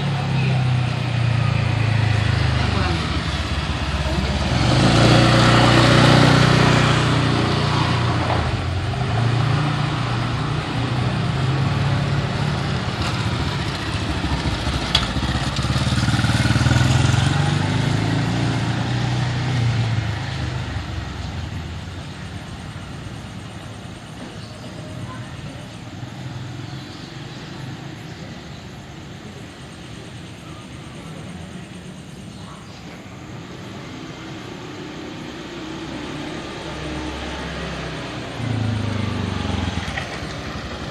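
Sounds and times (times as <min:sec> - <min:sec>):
motorcycles and cars passing: 0:00.0 - 0:40.9.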